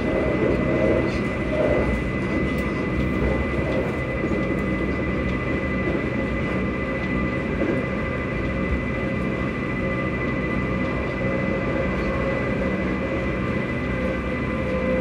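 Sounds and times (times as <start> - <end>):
high whine of traction motors: 0.0 - 15.0
train wheels rumbling on rail: 0.0 - 15.0.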